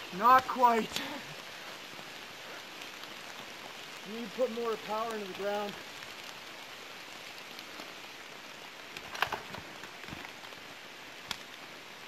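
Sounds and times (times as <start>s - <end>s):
rain-like hiss: 0.0s - 12.0s.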